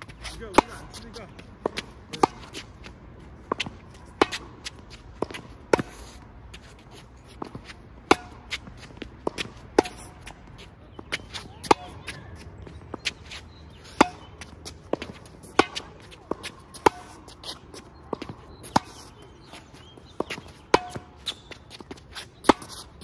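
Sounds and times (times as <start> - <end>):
distant tennis hits: 0.0 - 23.0
tennis ball hit by racket: 0.4 - 6.3, 7.3 - 23.0.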